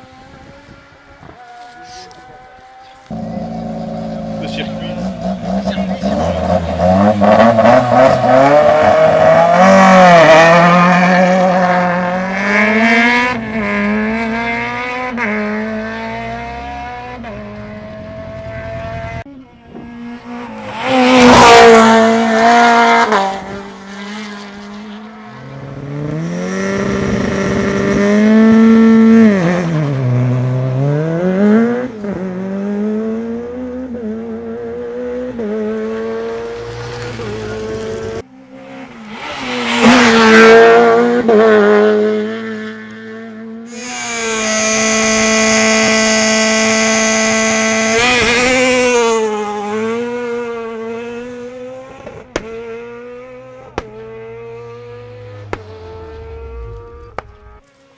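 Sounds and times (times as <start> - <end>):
rally car engines at full throttle: 0.0 - 57.9.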